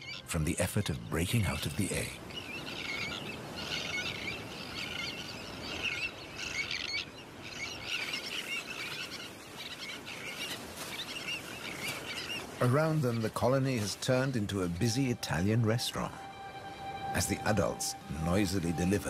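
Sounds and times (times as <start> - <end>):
tern colony calling: 2.2 - 19.0.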